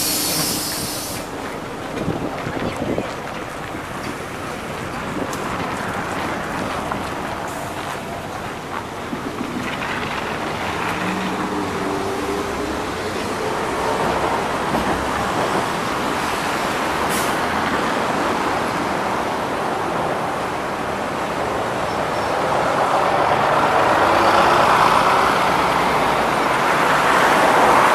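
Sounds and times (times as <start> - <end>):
bus engine and road noise: 0.0 - 27.9.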